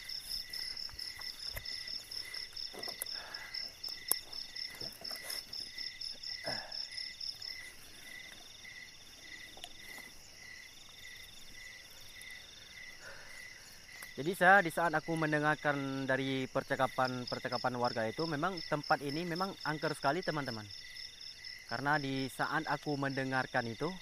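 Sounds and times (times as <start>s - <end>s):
fast high cricket chirp: 0.0s - 24.0s
lower insect chirp: 0.0s - 24.0s.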